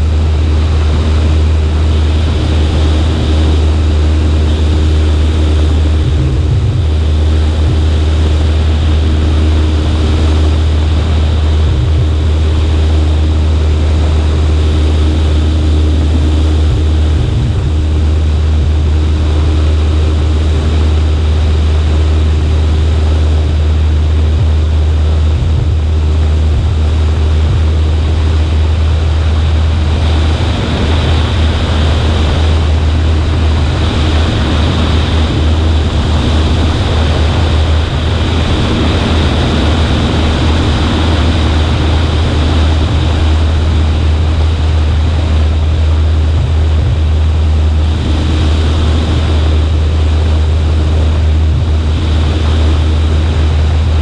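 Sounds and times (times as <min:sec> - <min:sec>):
propeller plane engine droning: 0:00.0 - 0:54.0
rushing air noise: 0:00.0 - 0:54.0.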